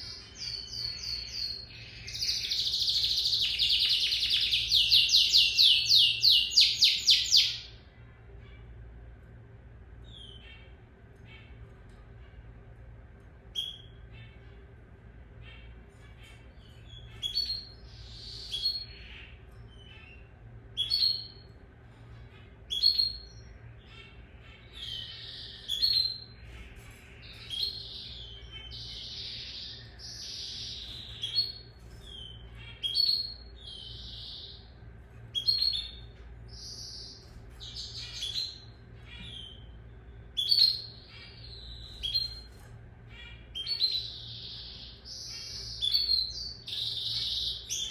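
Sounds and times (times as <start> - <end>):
canary chirping: 0.0 - 8.7, 10.0 - 47.9
faint low hum: 0.0 - 47.9.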